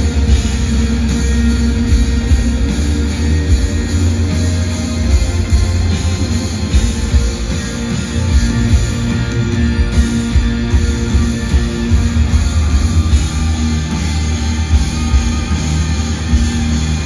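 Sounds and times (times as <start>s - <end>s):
electric guitar: 0.0s - 17.0s
heavy bass: 0.0s - 17.0s
live rock band playing: 0.0s - 17.0s.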